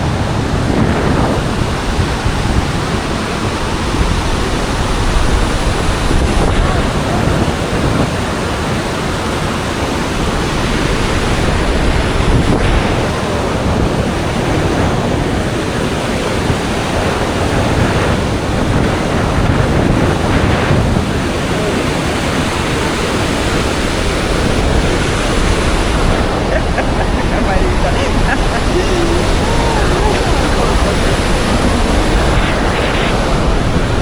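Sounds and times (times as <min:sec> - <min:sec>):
rush of falling water: 0:00.0 - 0:34.0.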